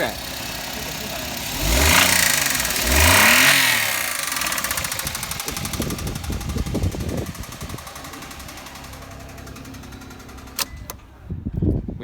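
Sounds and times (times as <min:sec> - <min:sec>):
car engine revving: 0:00.0 - 0:10.7
car engine idling with knocking: 0:00.0 - 0:11.2.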